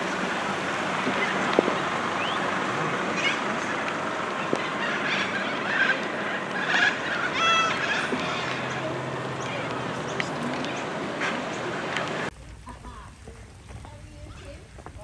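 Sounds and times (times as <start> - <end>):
rain falling on wet street: 0.0 - 15.0.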